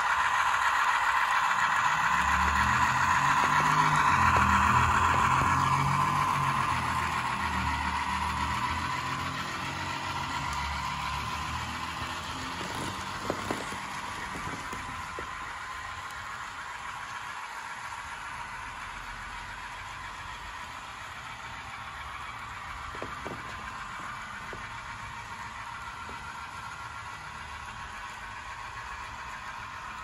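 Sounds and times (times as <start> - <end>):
model locomotive engine sound: 0.0 - 30.0
wheels rolling on rails: 0.0 - 30.0.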